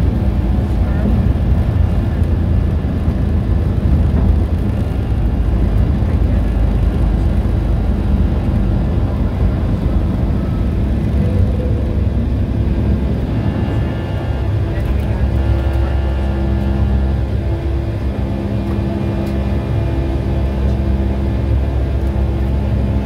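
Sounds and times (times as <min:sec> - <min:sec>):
jet engine cabin rumble: 0:00.0 - 0:23.0.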